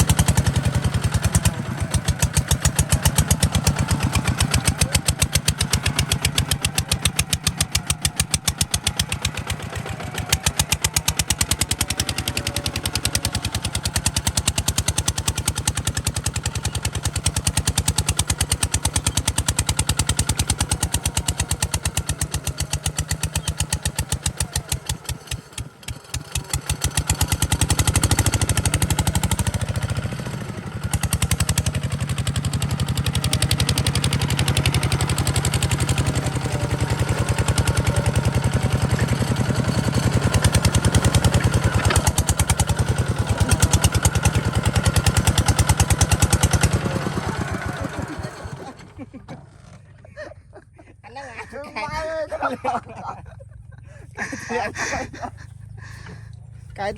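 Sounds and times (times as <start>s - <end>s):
diesel engine chugging: 0.0s - 56.9s.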